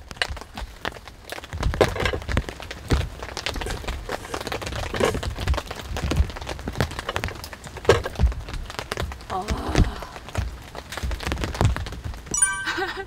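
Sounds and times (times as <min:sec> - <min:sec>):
irregular taps and knocks: 0:00.1 - 0:12.4.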